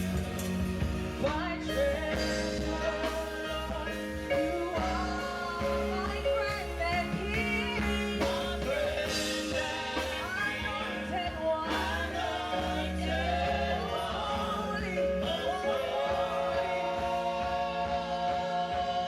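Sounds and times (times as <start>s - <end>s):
group singing gospel song: 0.0s - 19.0s
instrumental accompaniment: 0.0s - 19.0s.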